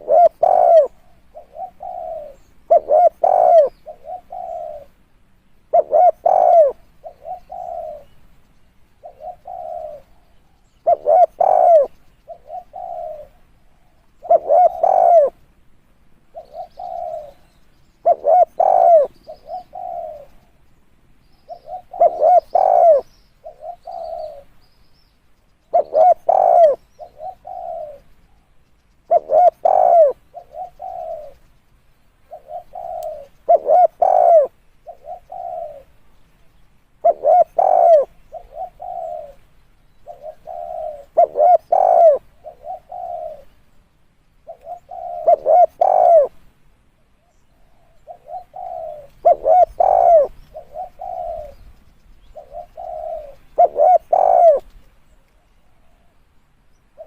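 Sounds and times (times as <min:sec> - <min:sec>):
dove cooing: 0:00.0 - 0:05.0, 0:05.7 - 0:08.2, 0:09.0 - 0:15.4, 0:16.2 - 0:20.6, 0:21.4 - 0:24.5, 0:25.6 - 0:28.1, 0:29.0 - 0:31.5, 0:32.2 - 0:36.0, 0:37.0 - 0:43.6, 0:44.4 - 0:46.5, 0:47.2 - 0:56.3.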